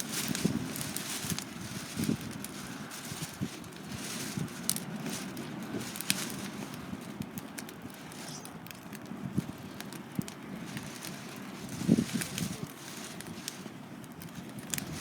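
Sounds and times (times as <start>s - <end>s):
campfire crackling and popping: 0.0s - 15.0s
low rush of fire: 0.0s - 15.0s.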